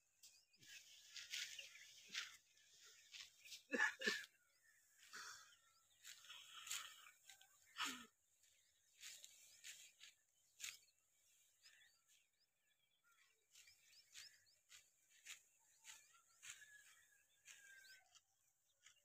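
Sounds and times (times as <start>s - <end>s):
faint bird chirps: 0.0s - 19.0s
dry wheat stalks rustling: 0.6s - 3.8s, 5.9s - 12.2s, 13.1s - 19.0s.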